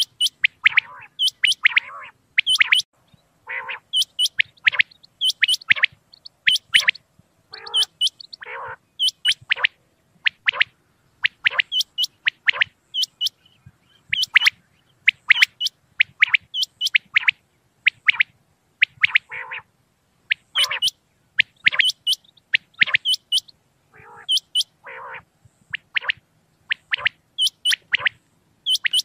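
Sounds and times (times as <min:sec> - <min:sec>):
harsh low bird calls: 0:00.0 - 0:29.0
quail whistled calls: 0:00.0 - 0:29.0.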